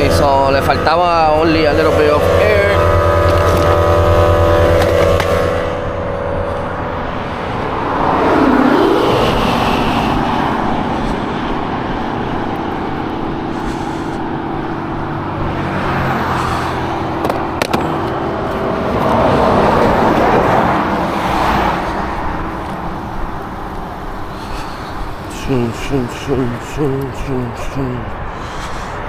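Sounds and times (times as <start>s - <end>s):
engine hum: 0.0s - 29.0s
vehicles passing by: 0.0s - 29.0s.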